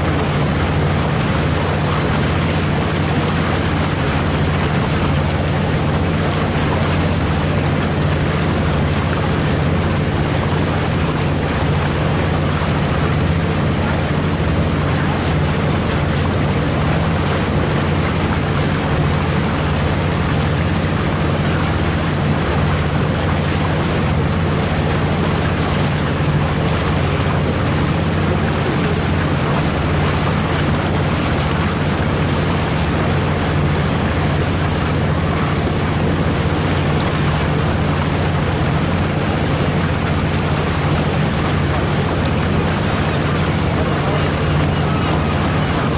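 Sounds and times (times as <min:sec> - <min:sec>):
boat engine humming: 0:00.0 - 0:45.9
rushing water: 0:00.0 - 0:45.9
wind: 0:00.0 - 0:45.9.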